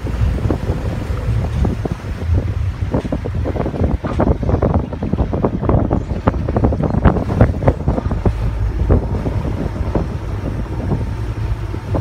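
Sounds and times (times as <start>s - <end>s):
motorboat rumble: 0.0s - 12.0s
wake churning: 0.0s - 12.0s
wind buffeting microphone: 0.0s - 12.0s.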